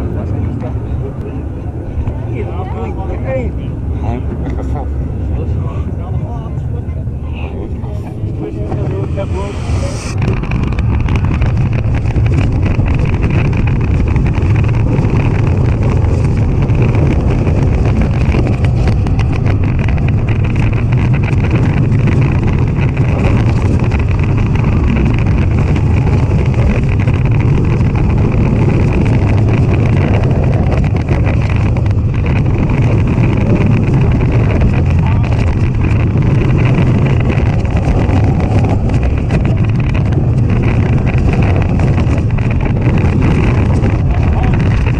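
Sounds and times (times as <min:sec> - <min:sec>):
roller coaster wheels rumbling: 0:00.0 - 0:44.9
wind on microphone: 0:00.0 - 0:44.9.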